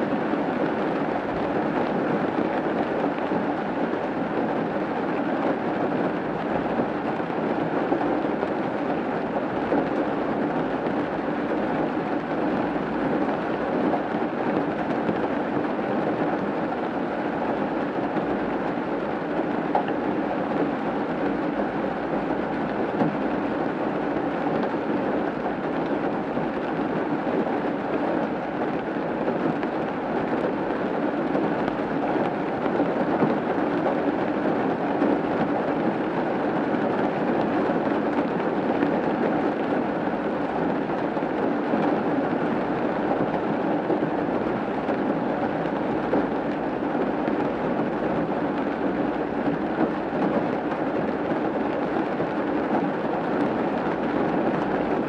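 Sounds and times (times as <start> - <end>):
rain on a roof: 0.0 - 55.0.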